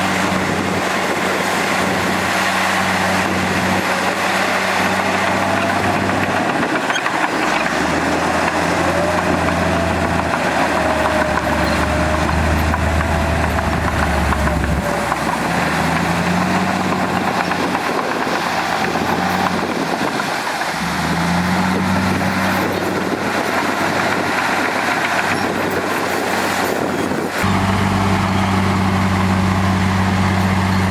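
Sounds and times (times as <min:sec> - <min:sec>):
diesel engine droning under load: 0:00.0 - 0:30.9.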